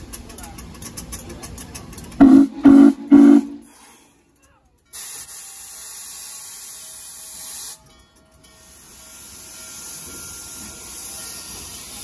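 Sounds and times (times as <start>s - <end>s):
steam locomotive venting steam: 0.0s - 4.2s, 4.9s - 12.0s.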